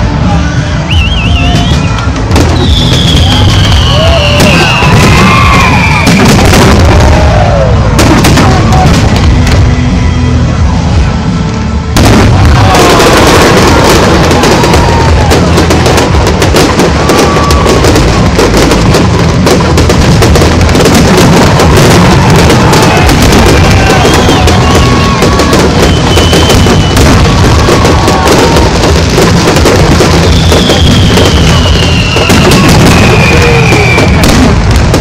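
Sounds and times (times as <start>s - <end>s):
whistling fireworks: 0.0s - 35.0s
firework shell bursts and crackling: 0.9s - 10.0s, 11.4s - 35.0s.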